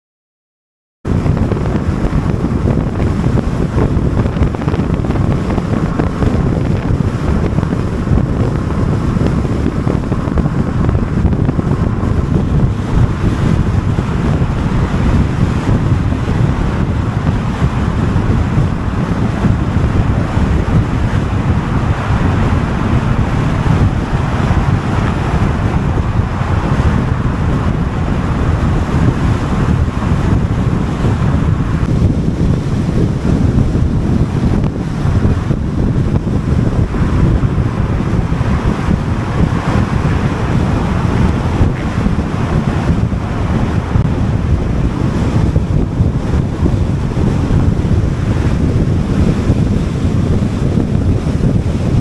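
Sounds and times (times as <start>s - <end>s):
wind buffeting microphone: 1.0s - 52.0s.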